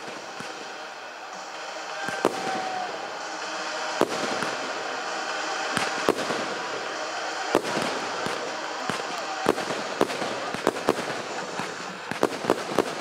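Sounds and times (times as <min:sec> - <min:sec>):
crowd noise: 0:00.0 - 0:13.0
firecrackers banging: 0:00.0 - 0:13.0.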